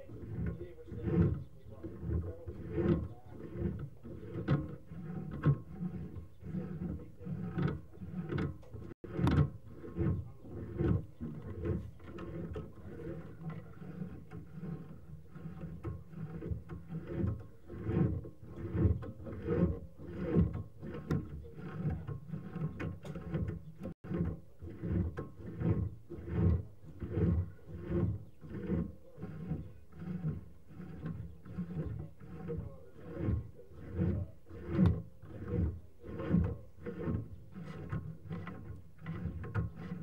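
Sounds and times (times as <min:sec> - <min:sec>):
cable rubbing knocks in a pipe: 0:00.0 - 0:40.0.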